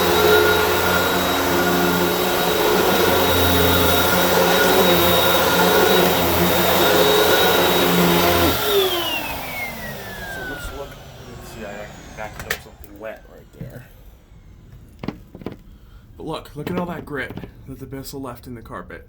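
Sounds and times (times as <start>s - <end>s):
upright vacuum motor whine: 0.0s - 15.8s, 16.6s - 17.6s.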